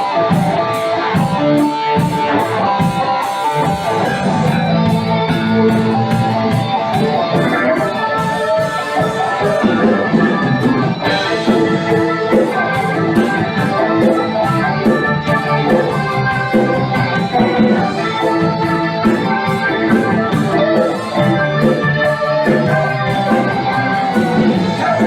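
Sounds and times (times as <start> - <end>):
band playing guitar and drums: 0.0 - 25.0.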